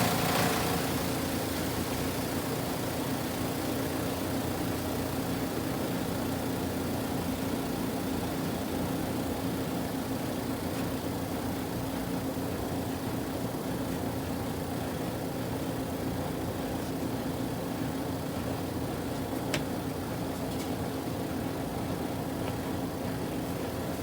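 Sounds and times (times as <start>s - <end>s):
washing machine motor hum: 0.0s - 24.0s.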